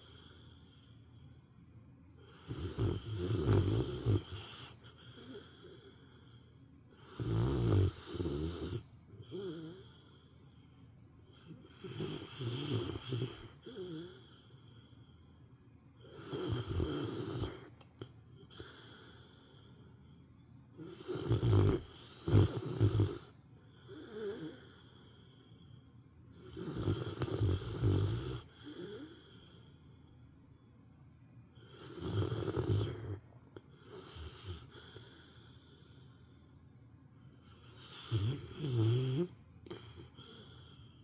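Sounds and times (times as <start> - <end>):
dog snoring: 0.0 - 1.0, 2.2 - 10.6, 11.2 - 15.0, 16.0 - 20.2, 20.8 - 25.7, 26.3 - 29.8, 31.5 - 36.4, 37.2 - 41.0
faint breath: 0.0 - 3.1, 4.2 - 7.3, 8.7 - 16.7, 17.3 - 20.8, 21.8 - 41.0.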